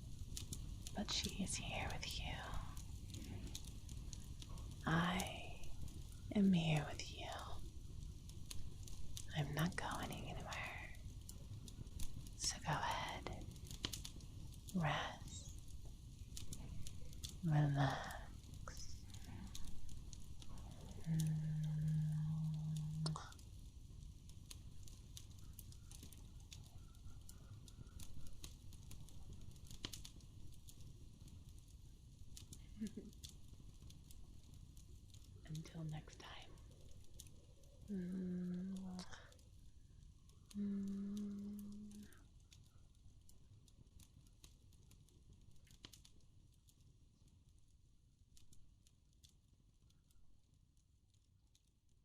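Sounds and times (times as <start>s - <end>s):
low steady rumble: 0.0s - 25.4s, 27.4s - 43.9s
fire crackling: 0.0s - 52.0s.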